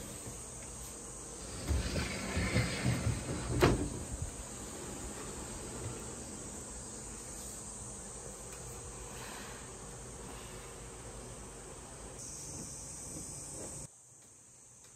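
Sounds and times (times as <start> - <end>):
high-pitched insect chorus: 0.0 - 14.9.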